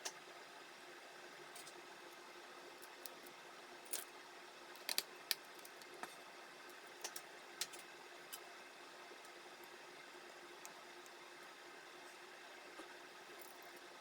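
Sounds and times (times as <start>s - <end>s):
faint hum and hiss: 0.0s - 14.0s.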